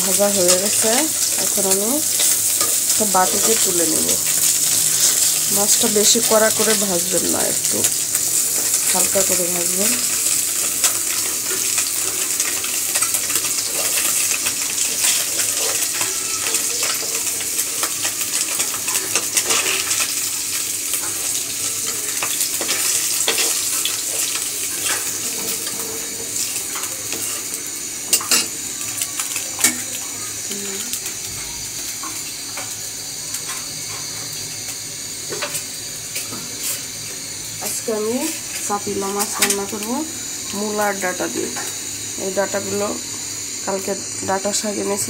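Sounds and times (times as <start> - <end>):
fish sizzling in hot oil: 0.0 - 45.0.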